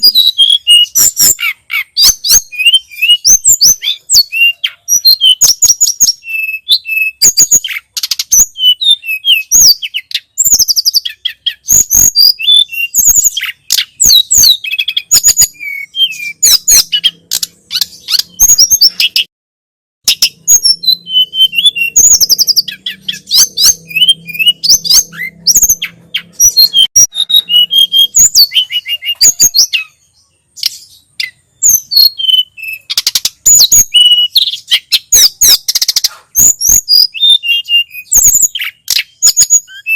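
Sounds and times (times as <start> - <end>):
bird chirping and whistling: 0.0 - 19.3, 20.0 - 39.9.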